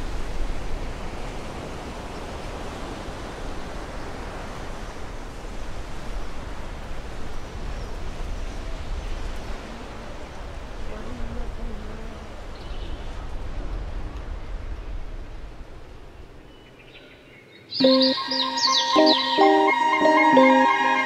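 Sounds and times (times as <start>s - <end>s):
outdoor ambient noise: 0.0s - 20.4s.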